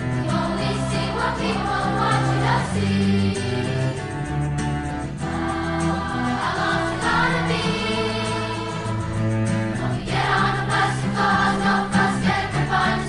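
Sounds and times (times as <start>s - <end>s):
choir singing: 0.0s - 4.3s, 4.9s - 13.0s
sustained accompaniment: 0.0s - 13.0s.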